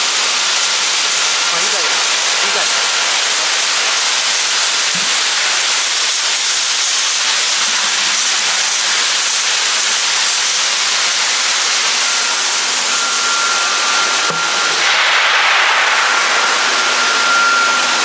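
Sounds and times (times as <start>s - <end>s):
spray nozzles hissing: 0.0s - 18.0s.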